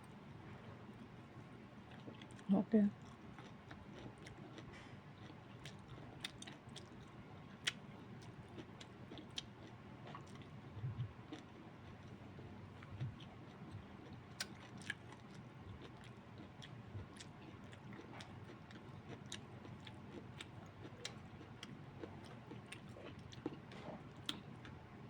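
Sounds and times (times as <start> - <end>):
faint chewing with wet clicks: 1.3 - 25.0.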